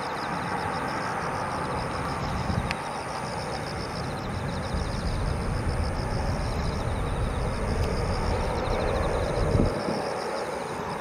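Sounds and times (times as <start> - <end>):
distant jet engine rumble: 0.0 - 11.0.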